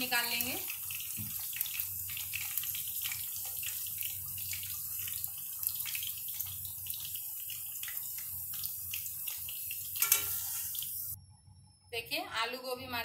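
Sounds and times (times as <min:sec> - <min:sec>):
potatoes sizzling in hot oil: 0:00.0 - 0:11.2.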